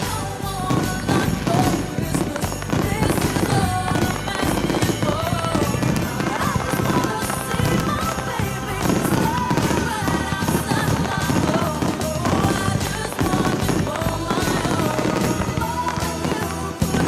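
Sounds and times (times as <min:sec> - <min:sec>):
fireworks bursting: 0:00.0 - 0:17.0
loud music with melody: 0:00.0 - 0:17.0.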